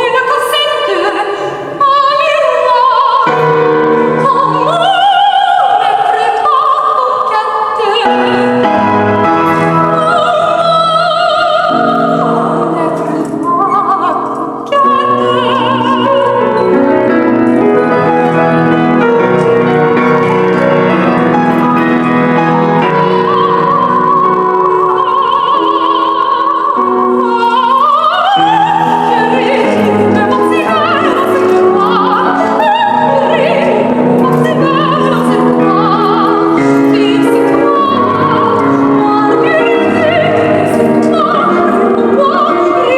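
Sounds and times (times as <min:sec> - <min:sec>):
piano accompaniment: 0:00.0 - 0:42.9
soprano singing opera: 0:00.0 - 0:42.9.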